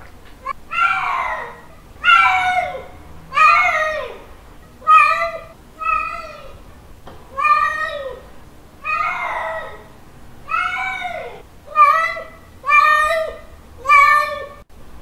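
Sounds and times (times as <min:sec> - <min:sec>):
cat meowing: 0:00.4 - 0:04.2, 0:04.8 - 0:06.6, 0:07.3 - 0:08.2, 0:08.8 - 0:14.6.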